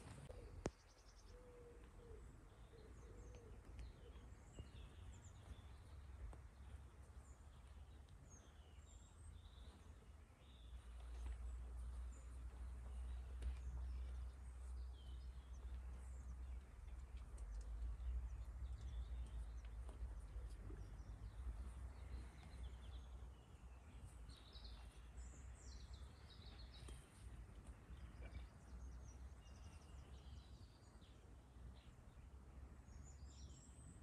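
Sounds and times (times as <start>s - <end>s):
small birds chirping: 0.0s - 34.0s
steady low rumble: 2.2s - 31.2s.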